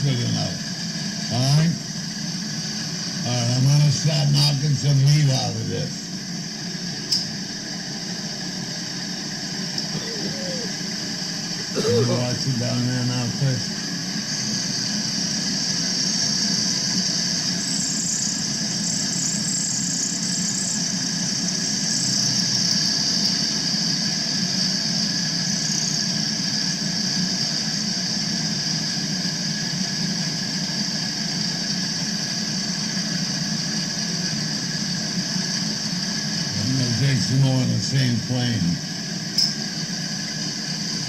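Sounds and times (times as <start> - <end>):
high-pitched cutting whine: 0.0 - 41.0
milling machine hum: 0.0 - 41.0.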